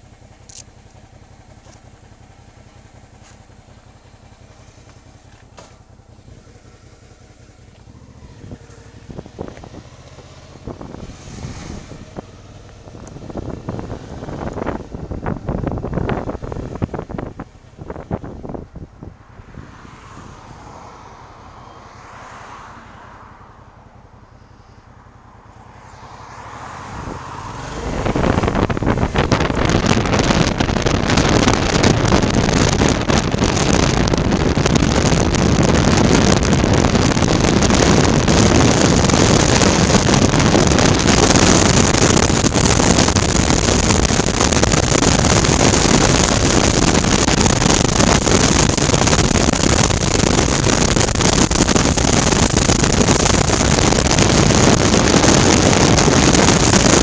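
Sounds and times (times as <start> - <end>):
motorcycle engine running: 0.0 - 22.0, 23.5 - 57.0
wind rushing over microphone: 6.0 - 23.4, 25.8 - 57.0.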